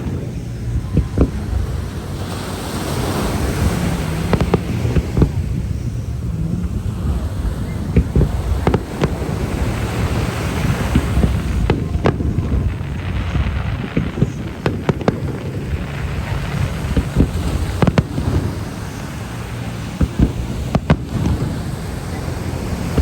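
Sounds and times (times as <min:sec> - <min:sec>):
fireworks bangs and cracks: 0:00.0 - 0:23.0
wind rumble on microphone: 0:00.0 - 0:23.0.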